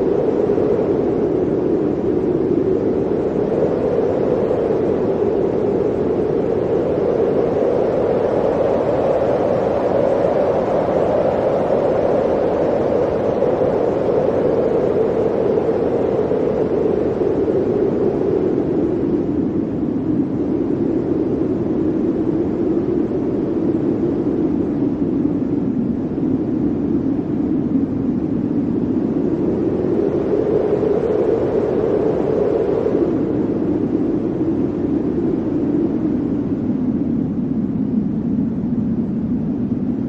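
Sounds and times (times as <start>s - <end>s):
blizzard wind rushing: 0.0s - 40.0s.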